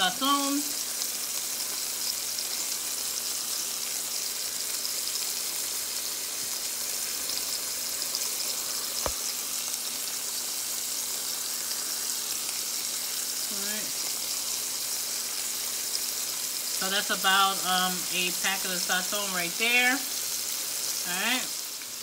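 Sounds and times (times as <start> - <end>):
burger patties sizzling in oil: 0.0 - 22.0.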